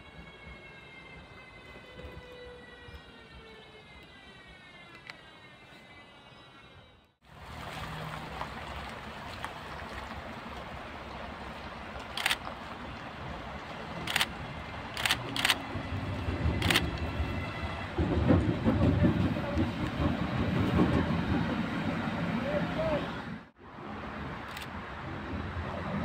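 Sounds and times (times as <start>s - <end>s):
electric locomotive rumble: 0.0s - 7.6s, 9.7s - 26.0s.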